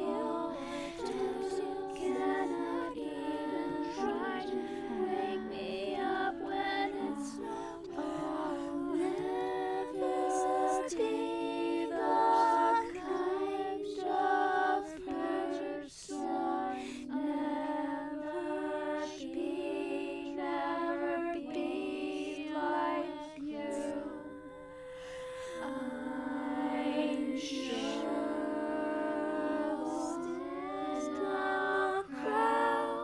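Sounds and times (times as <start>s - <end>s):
a cappella harmony singing: 0.0s - 33.0s.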